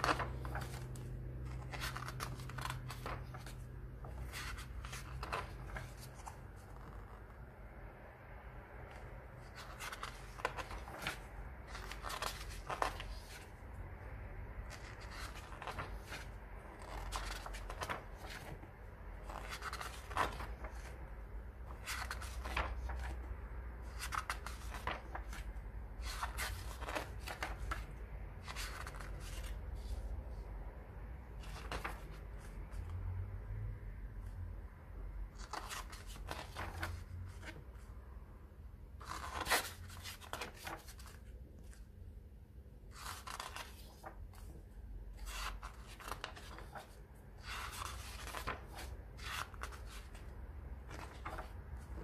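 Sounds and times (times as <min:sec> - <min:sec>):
pages turning and rustling: 0:00.0 - 0:07.6, 0:08.9 - 0:13.7, 0:14.6 - 0:30.4, 0:31.2 - 0:33.0, 0:35.3 - 0:38.0, 0:39.0 - 0:41.9, 0:42.9 - 0:52.0.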